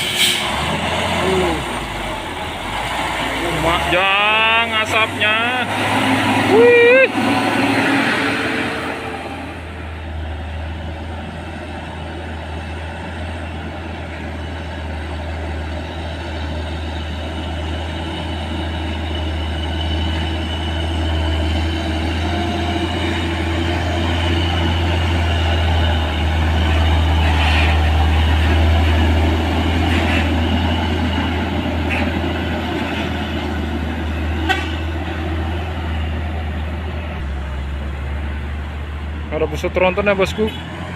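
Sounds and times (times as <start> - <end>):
diesel truck engine labouring uphill: 0.0 - 40.9.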